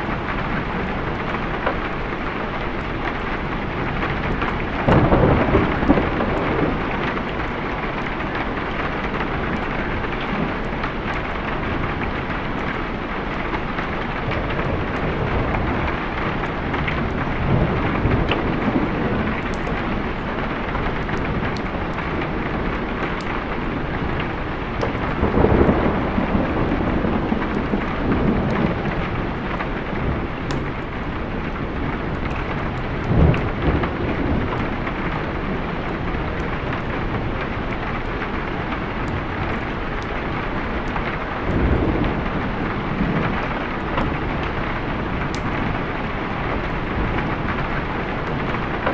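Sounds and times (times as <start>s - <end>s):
rolling thunder: 0.0s - 48.9s
steady rain falling: 0.0s - 48.9s.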